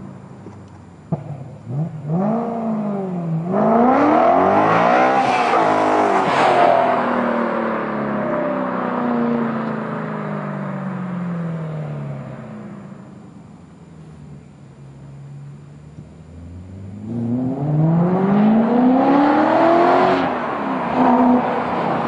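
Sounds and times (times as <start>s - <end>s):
car engine revving: 1.1s - 13.3s, 15.1s - 22.0s.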